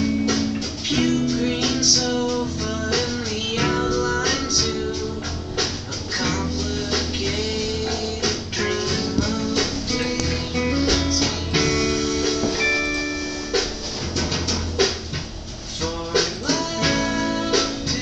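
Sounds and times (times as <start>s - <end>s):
song with guitar and bass: 0.0s - 18.0s.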